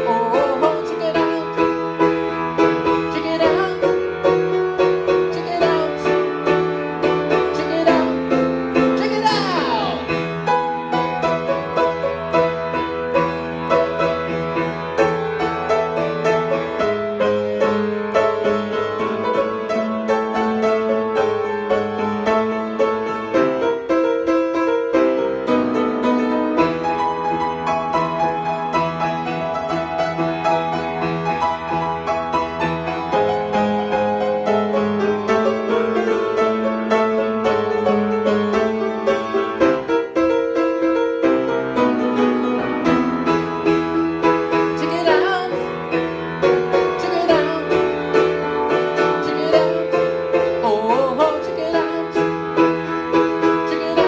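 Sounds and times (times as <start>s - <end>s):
piano playing chords: 0.0s - 54.0s.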